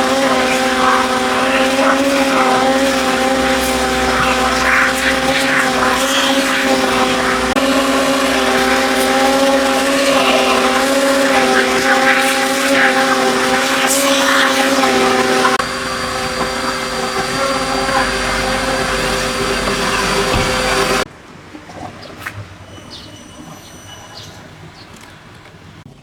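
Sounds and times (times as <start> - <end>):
electric motor whining: 0.0 - 21.1
scratchy rubbing noises: 0.0 - 21.1.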